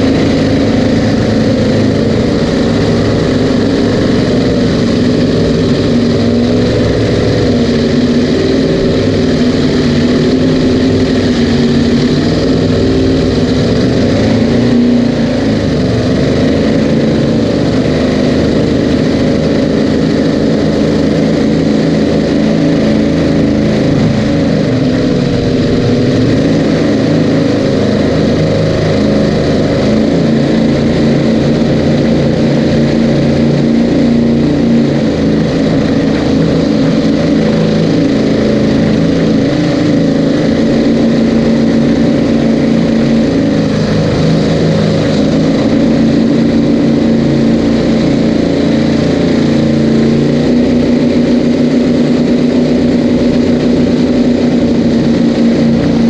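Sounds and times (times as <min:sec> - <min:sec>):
powerboat engines running loud: 0:00.0 - 0:56.0.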